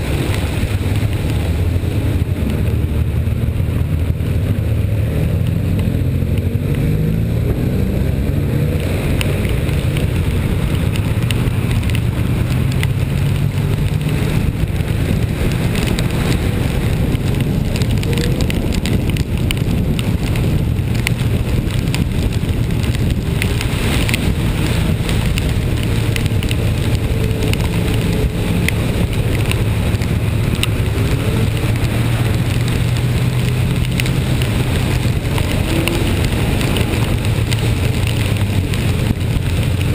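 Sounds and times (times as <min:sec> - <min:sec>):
rain ticks: 0:00.0 - 0:39.9
wet road noise: 0:00.0 - 0:39.9
wind: 0:00.0 - 0:39.9.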